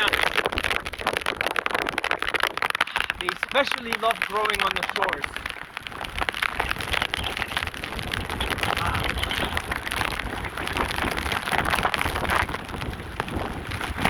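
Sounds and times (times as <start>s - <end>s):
heavy rain pattering: 0.0s - 14.0s
wind rumbling on microphone: 0.0s - 14.0s.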